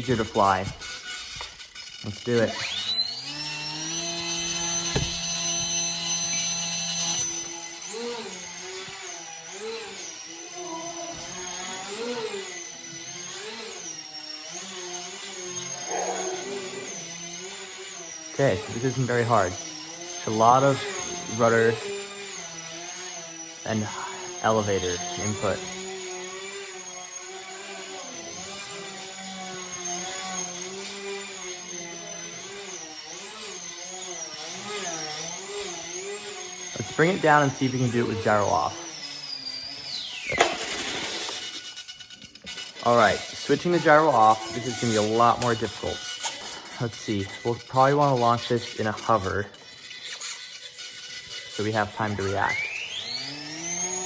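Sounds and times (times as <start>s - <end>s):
model plane motor whining: 0.0s - 54.0s.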